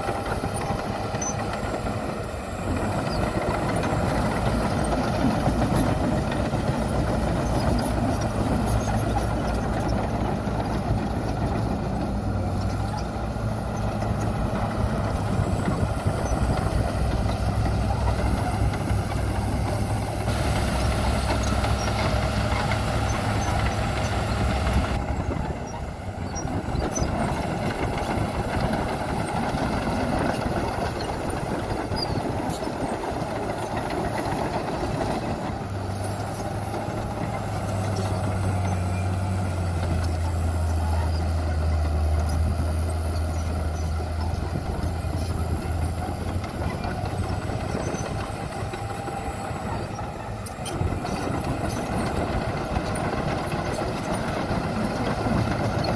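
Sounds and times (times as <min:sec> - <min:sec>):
diesel machinery engine drone: 0:00.0 - 0:55.9.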